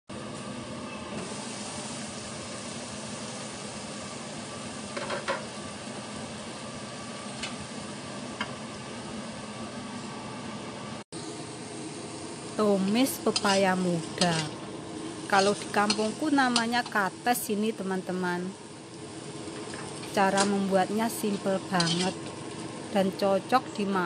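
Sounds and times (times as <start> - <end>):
food sizzling in a wok: 0.2 - 8.3, 11.2 - 24.0.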